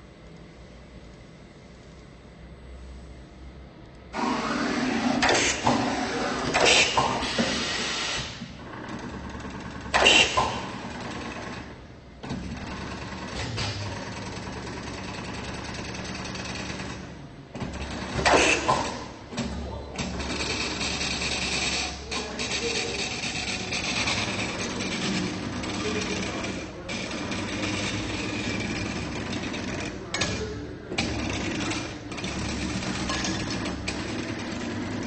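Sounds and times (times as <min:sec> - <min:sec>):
steady machine hum: 0:00.0 - 0:35.0
machine mechanical whirr: 0:03.8 - 0:35.0.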